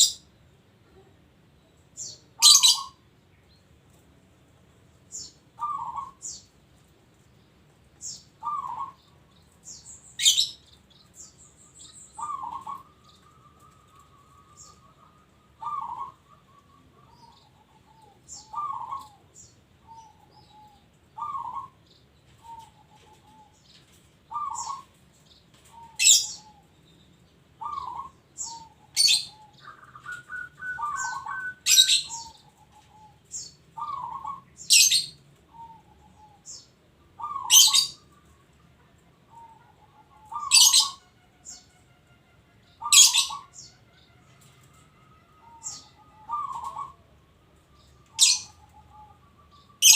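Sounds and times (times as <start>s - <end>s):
dove cooing: 2.0s - 3.0s, 5.1s - 6.4s, 8.0s - 10.6s, 12.1s - 25.0s, 25.6s - 26.7s, 27.6s - 49.9s.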